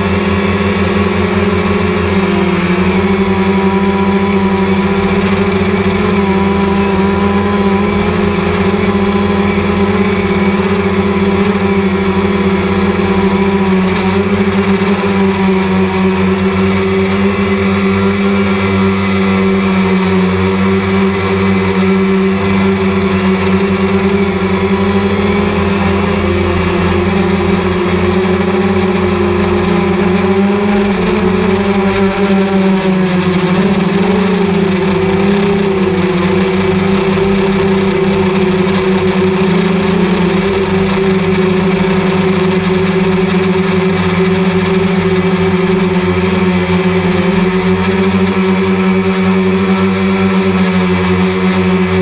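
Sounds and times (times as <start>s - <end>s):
drone propellers humming: 0.0s - 52.0s.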